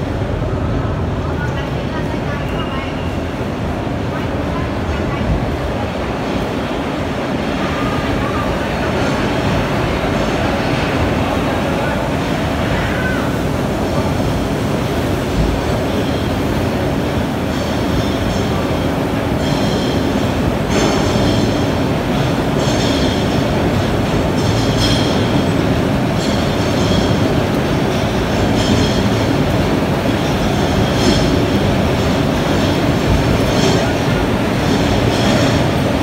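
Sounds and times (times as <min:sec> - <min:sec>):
ride machinery rumble: 0:00.0 - 0:36.0
rushing water: 0:00.0 - 0:36.0.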